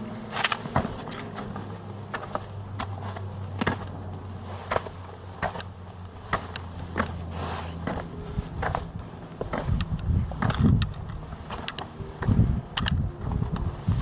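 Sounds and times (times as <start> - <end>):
footsteps crunching in snow: 0.0 - 14.0
steady low hum: 0.0 - 14.0.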